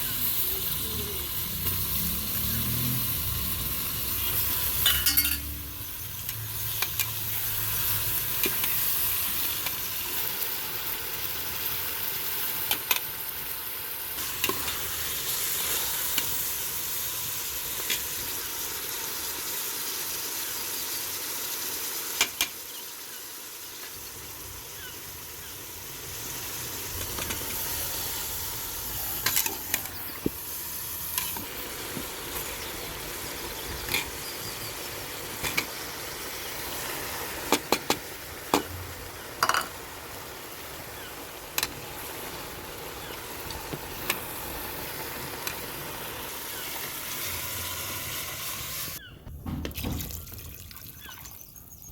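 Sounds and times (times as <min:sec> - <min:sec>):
food sizzling in oil: 0:00.0 - 0:49.1.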